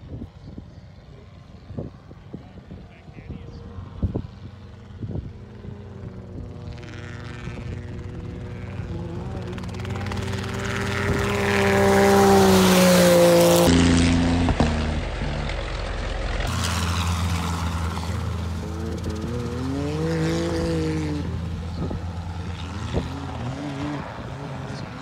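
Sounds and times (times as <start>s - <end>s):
buggy engine running hard: 0.0s - 25.0s
helicopter flying low: 0.0s - 25.0s.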